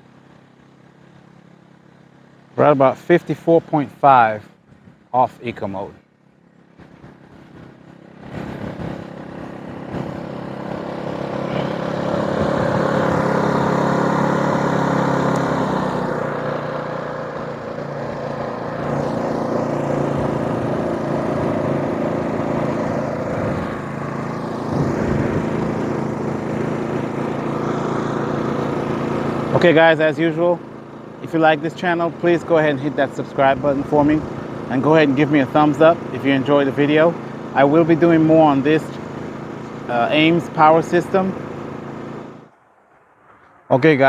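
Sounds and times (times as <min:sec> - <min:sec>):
generator engine running: 0:00.0 - 0:44.0.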